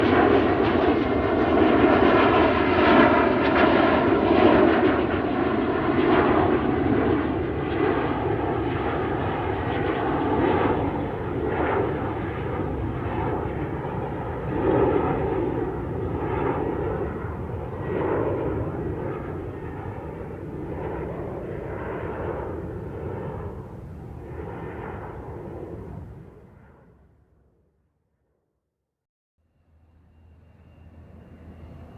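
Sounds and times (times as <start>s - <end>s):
aeroplane engine drone: 0.0s - 27.7s, 29.4s - 31.9s.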